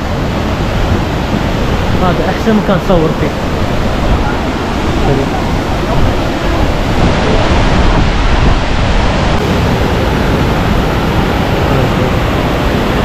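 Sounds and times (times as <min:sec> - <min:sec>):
white-water rapids: 0:00.0 - 0:13.0
wind buffeting microphone: 0:00.0 - 0:13.0.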